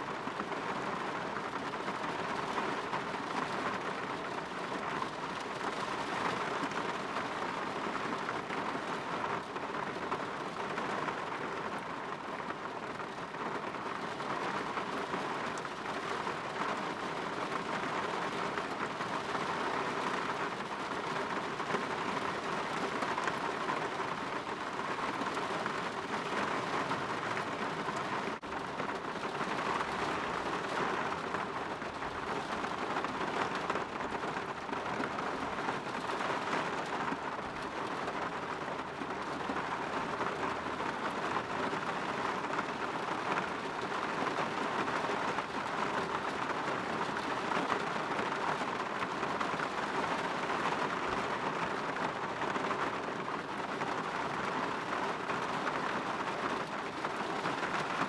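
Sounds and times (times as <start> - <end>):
rain patter on a window: 0.0 - 58.0.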